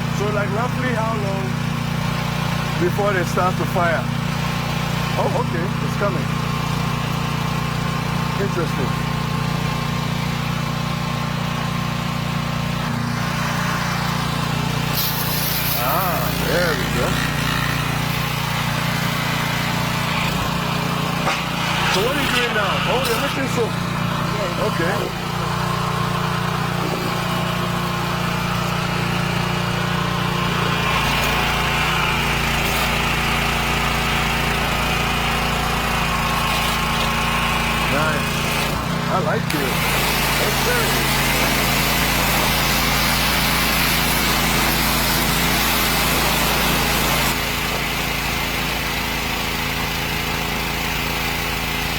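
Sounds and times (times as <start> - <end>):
pressure washer humming: 0.0 - 51.9
small engine running: 0.0 - 51.9.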